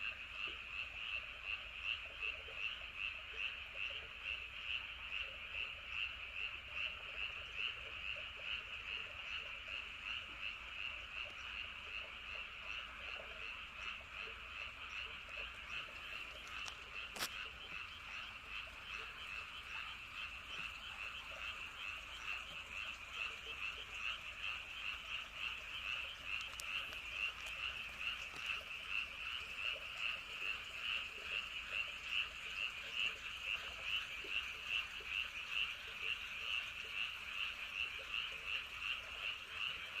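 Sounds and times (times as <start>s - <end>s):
frogs croaking: 0.0s - 40.0s.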